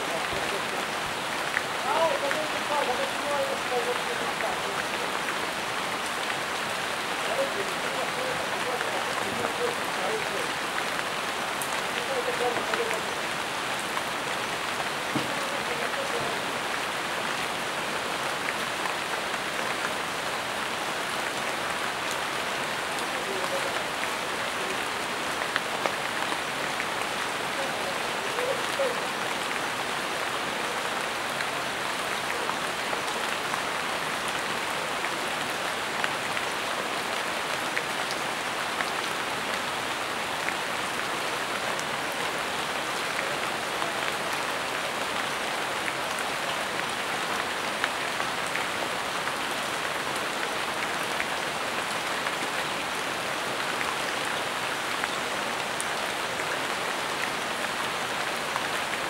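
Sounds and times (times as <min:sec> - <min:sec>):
rain on foliage: 0:00.0 - 0:59.0.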